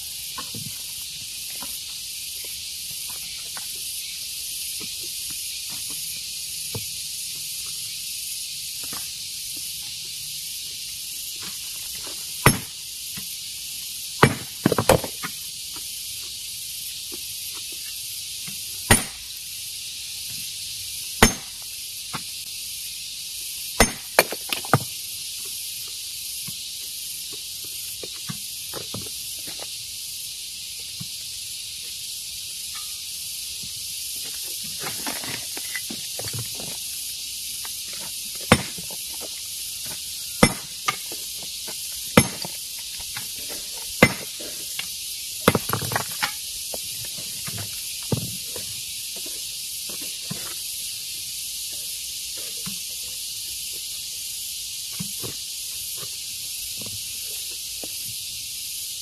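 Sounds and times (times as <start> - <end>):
high-pitched hiss: 0.0 - 59.0.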